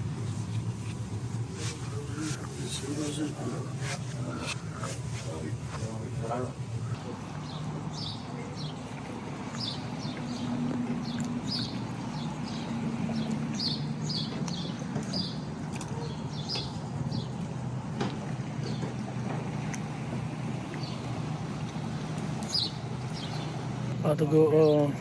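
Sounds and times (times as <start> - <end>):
birds chirping: 0.0 - 25.0
low engine hum: 0.0 - 25.0.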